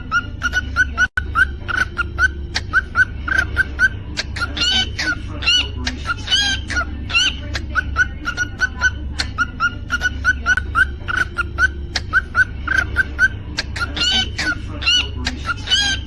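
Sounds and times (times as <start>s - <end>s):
cockatiel chirping and whistling: 0.0s - 16.0s.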